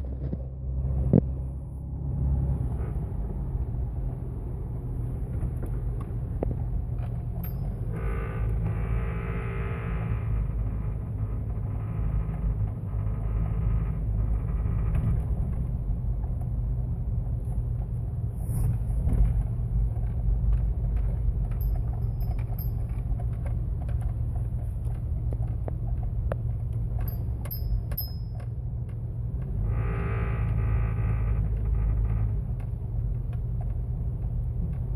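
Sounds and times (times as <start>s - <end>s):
car engine low drone: 0.0s - 34.9s.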